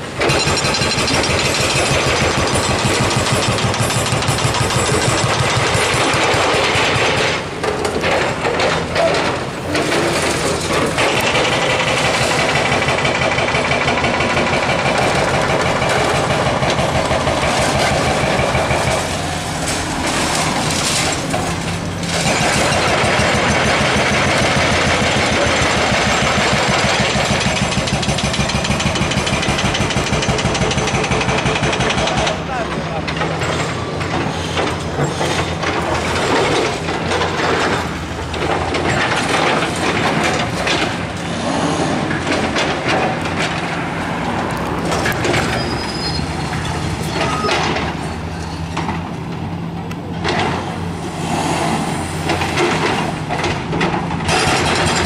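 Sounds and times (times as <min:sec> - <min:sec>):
hydraulic breaker hammering concrete: 0:00.0 - 0:43.8, 0:52.2 - 0:55.0
diesel engines running: 0:00.0 - 0:55.0.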